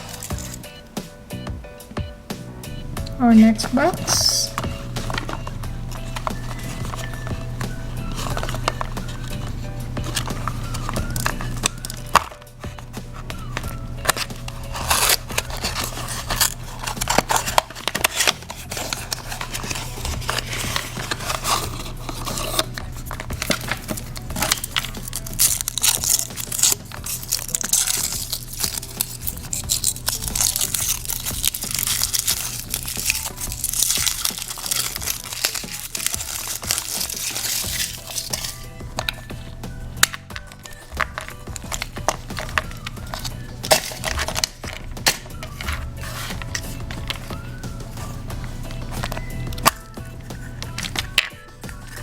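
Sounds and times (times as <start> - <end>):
wrapper crinkling and tearing: 0.0 - 0.6, 3.5 - 52.0
background music: 0.0 - 52.0.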